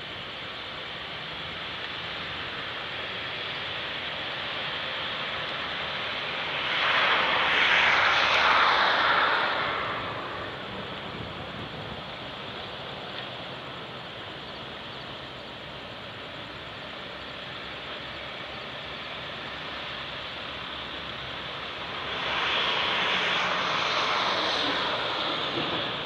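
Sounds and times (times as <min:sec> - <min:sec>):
rushing outdoor noise: 0:00.0 - 0:26.0.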